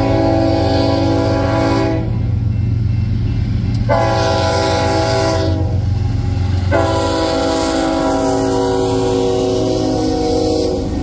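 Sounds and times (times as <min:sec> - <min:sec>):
locomotive air horn: 0:00.0 - 0:02.3, 0:03.8 - 0:06.0, 0:06.6 - 0:11.0.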